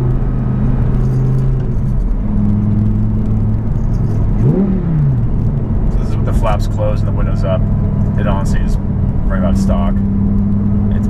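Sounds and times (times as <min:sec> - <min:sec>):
car engine while driving: 0:00.0 - 0:11.0.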